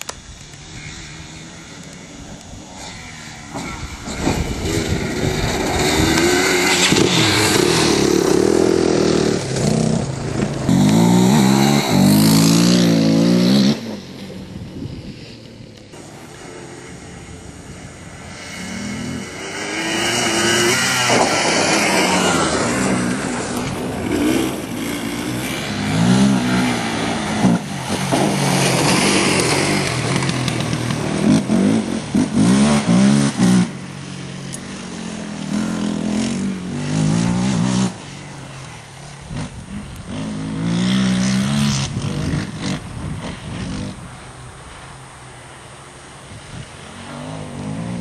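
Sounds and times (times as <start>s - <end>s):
quad engines revving: 0.0s - 44.4s.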